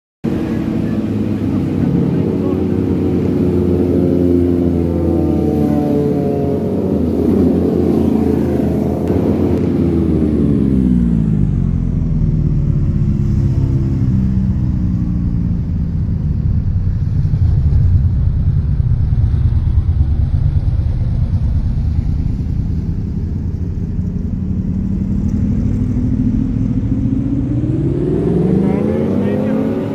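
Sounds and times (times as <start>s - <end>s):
motorcycle engine running: 0.3s - 29.9s.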